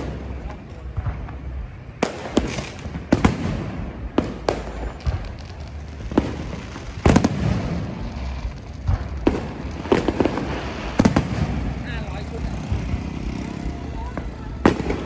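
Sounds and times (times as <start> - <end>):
fireworks bangs: 0.0 - 15.0
rumble of distant fireworks: 0.0 - 15.0.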